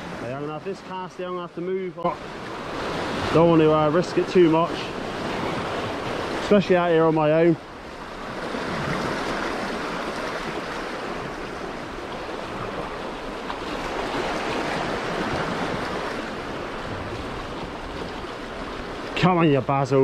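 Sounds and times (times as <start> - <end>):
sea waves washing onto beach: 0.0 - 20.0.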